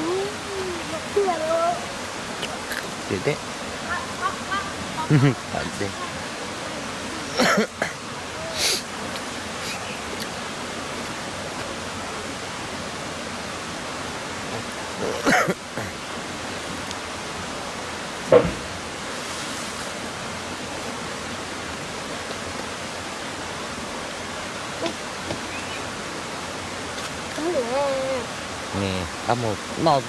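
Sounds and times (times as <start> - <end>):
flowing river water: 0.0 - 30.0.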